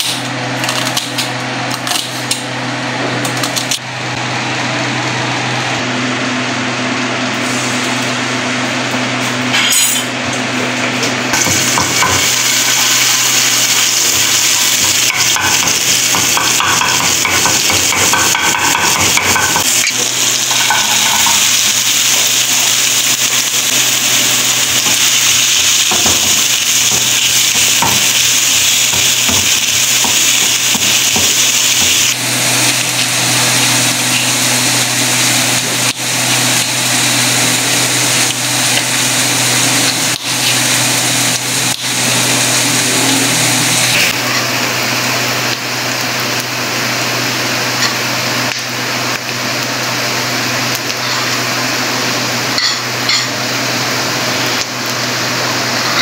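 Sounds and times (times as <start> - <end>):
onions sizzling in oil: 10.5 - 56.0.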